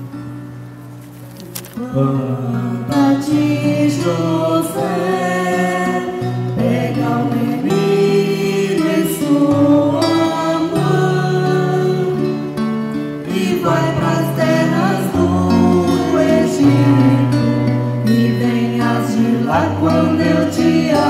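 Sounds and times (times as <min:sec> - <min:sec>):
guitar accompaniment: 0:00.0 - 0:21.0
church choir singing a hymn: 0:01.8 - 0:21.0.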